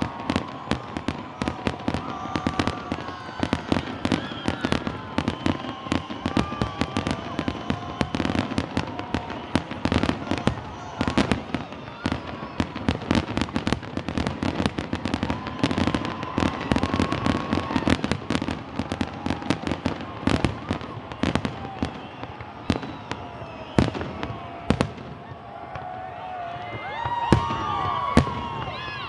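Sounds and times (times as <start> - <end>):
fireworks whistling: 0.0 - 25.3
fireworks bangs and crackles: 0.0 - 29.0.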